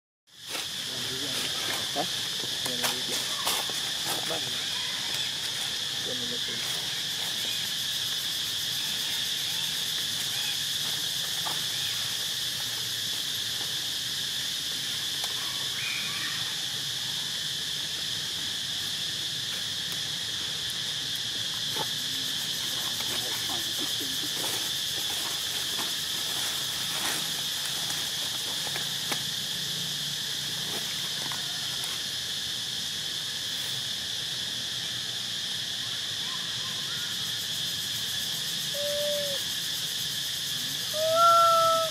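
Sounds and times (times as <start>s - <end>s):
high-pitched insect chorus: 0.3s - 41.9s.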